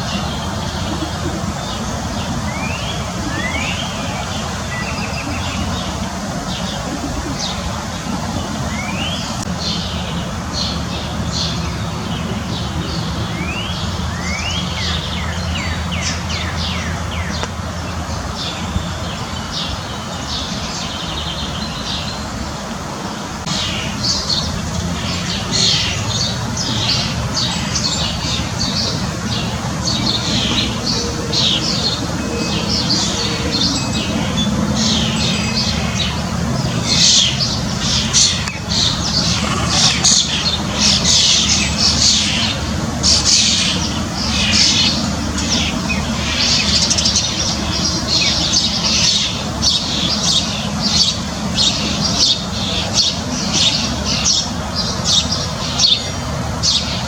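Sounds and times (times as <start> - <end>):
small birds chirping: 0.0 - 22.4, 23.4 - 57.0.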